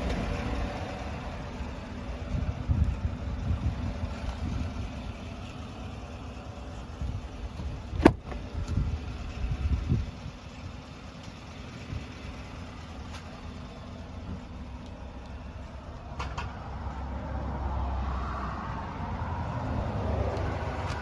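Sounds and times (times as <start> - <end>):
pickup engine rumbling: 0.0 - 21.0.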